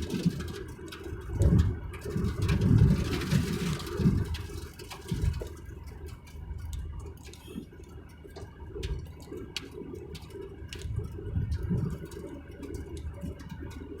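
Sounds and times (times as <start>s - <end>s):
vehicle rumbling on road: 0.0s - 14.0s.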